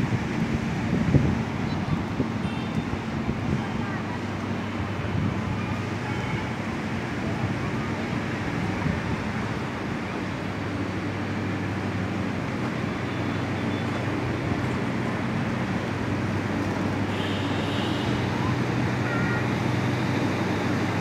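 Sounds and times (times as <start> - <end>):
diesel engine hum: 0.0 - 21.0
train coaches rolling on track: 0.0 - 21.0.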